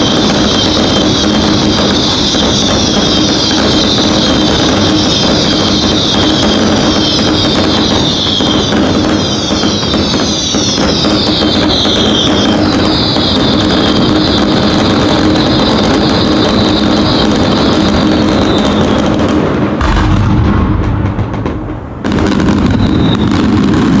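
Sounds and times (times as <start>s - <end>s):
fireworks and firecrackers crackling: 0.0s - 24.0s.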